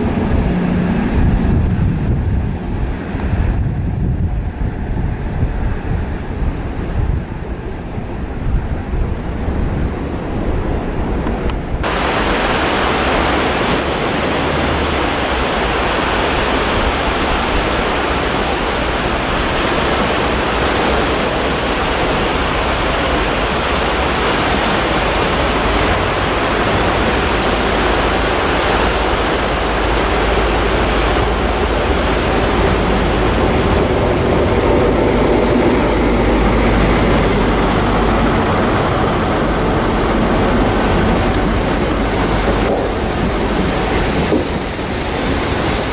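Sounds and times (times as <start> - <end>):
train rushing: 0.0 - 45.9.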